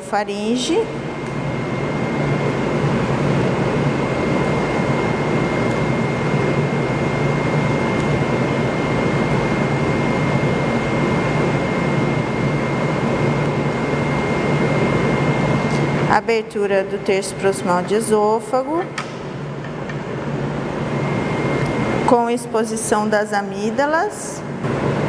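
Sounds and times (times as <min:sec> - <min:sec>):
ventilation hum and rushing: 0:00.0 - 0:25.0.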